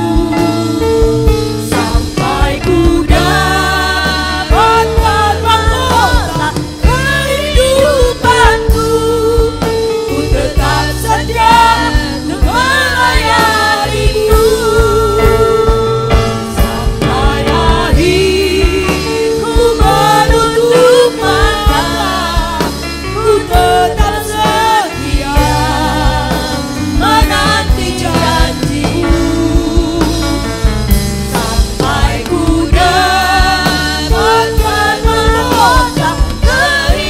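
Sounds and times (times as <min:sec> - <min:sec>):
person singing with vibrato: 0:00.0 - 0:30.5
instrumental accompaniment with steady beat: 0:00.0 - 0:37.0.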